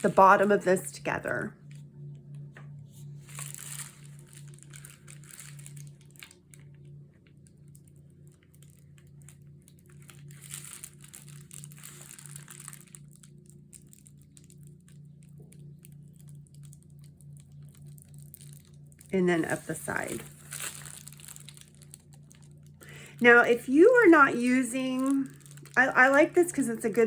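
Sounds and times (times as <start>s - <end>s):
paper mailer envelope crinkling: 0.0s - 27.0s.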